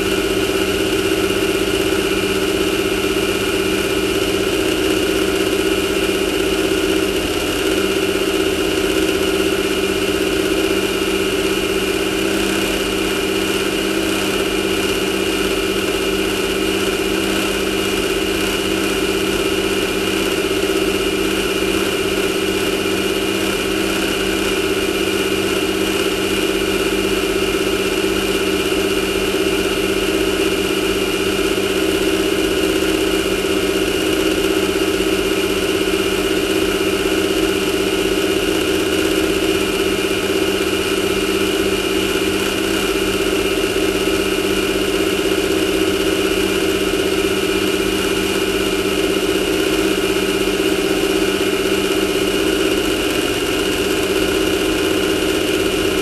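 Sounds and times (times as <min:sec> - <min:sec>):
buggy engine idling: 0:00.0 - 0:56.0.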